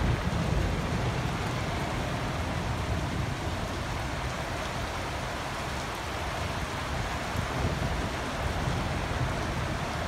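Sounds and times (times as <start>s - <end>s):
steady rain falling: 0.0s - 10.0s
wind gusts on microphone: 0.0s - 10.0s.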